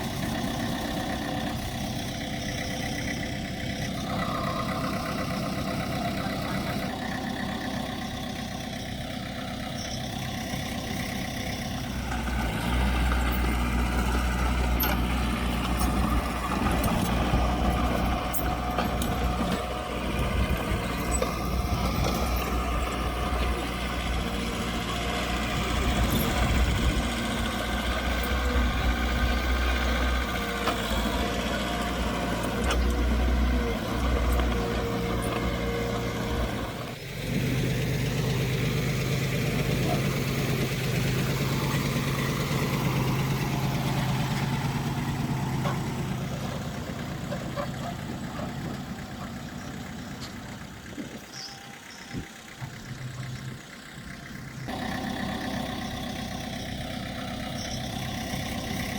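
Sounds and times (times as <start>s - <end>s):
heavy machinery diesel engines: 0.0s - 58.9s.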